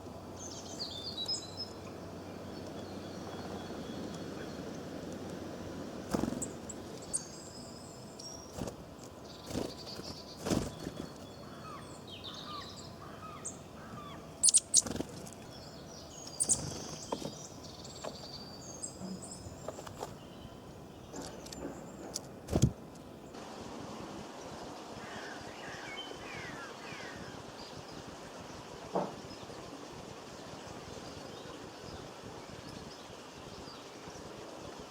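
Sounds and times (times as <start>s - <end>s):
songbirds chirping and twittering: 0.0s - 34.9s.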